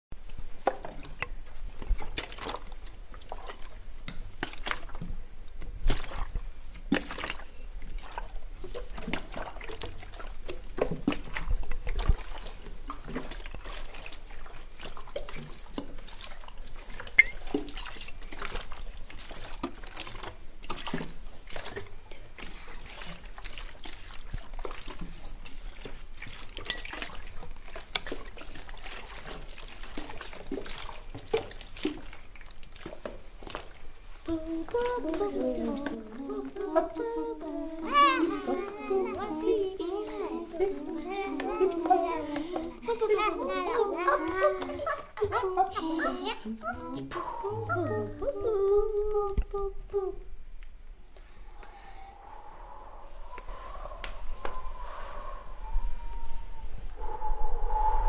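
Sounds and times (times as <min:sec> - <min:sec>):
water dripping and trickling: 0:00.2 - 0:47.1.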